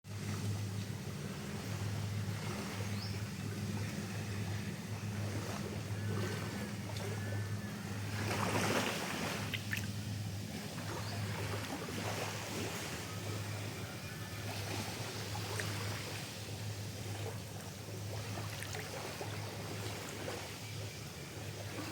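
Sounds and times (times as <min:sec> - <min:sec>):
boat engine drone: 0:00.0 - 0:21.9
water rushing: 0:00.1 - 0:21.9.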